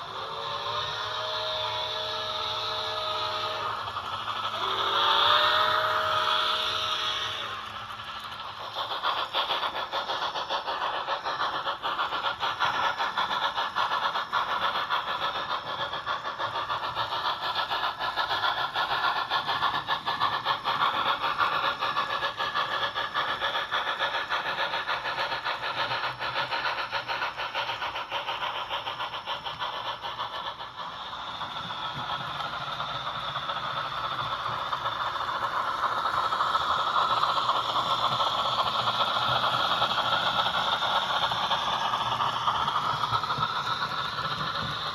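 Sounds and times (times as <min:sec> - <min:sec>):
model locomotive motor whirring: 0:00.0 - 0:44.9.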